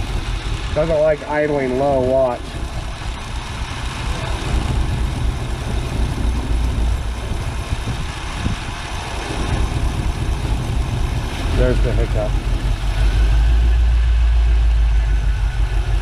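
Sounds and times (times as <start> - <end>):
engine idling unevenly: 0.0 - 16.0.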